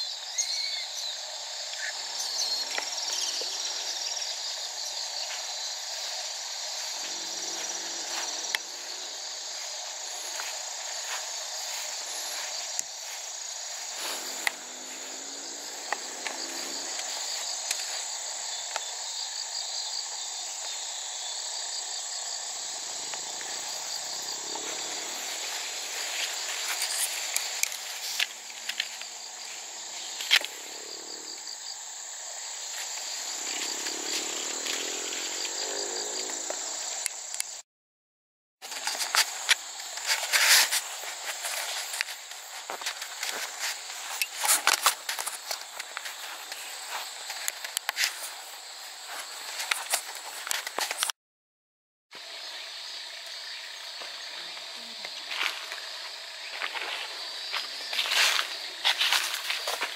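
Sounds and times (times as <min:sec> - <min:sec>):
insects trilling: 0:00.0 - 0:37.6, 0:38.6 - 0:51.1, 0:52.1 - 0:59.9.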